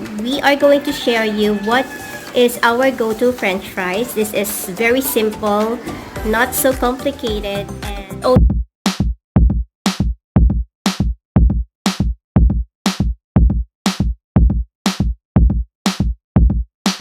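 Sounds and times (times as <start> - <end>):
drum machine beat: 0.0 - 17.0.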